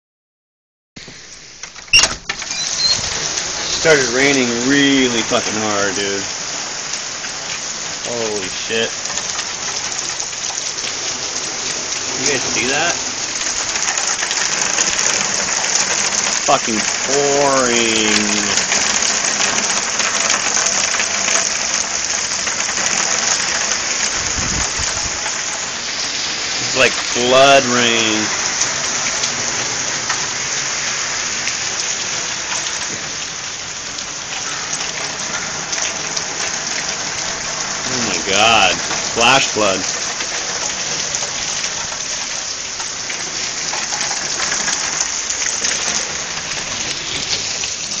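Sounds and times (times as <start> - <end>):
heavy rain pouring: 1.0 - 48.0.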